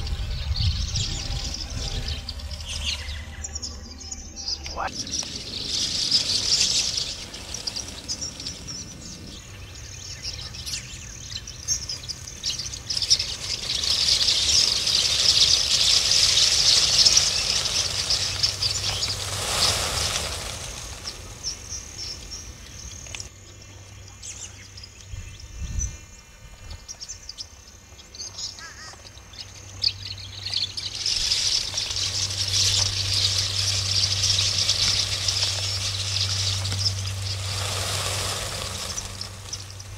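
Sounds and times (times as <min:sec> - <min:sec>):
low steady hum: 0:00.0 - 0:39.9
swallows twittering: 0:00.0 - 0:39.9.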